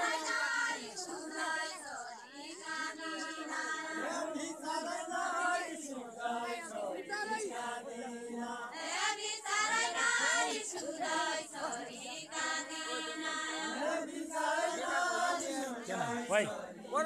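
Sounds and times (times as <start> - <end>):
group singing folk song: 0.0 - 17.0.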